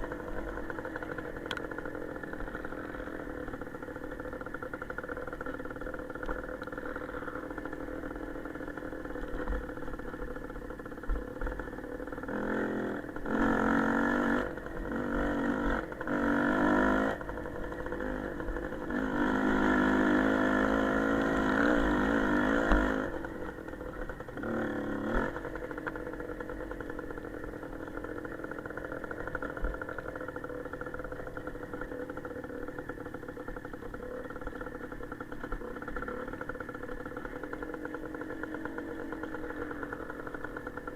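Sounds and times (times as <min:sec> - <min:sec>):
small motorcycle engine revving: 0:00.0 - 0:40.9.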